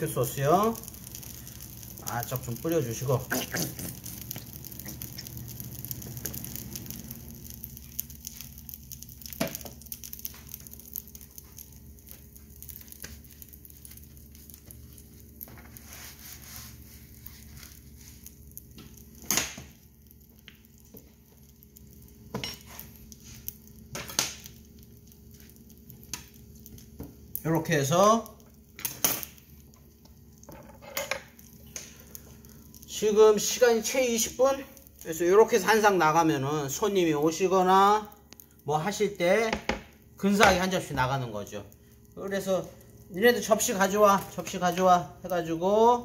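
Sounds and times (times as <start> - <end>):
faint sizzling: 0.0 - 46.0.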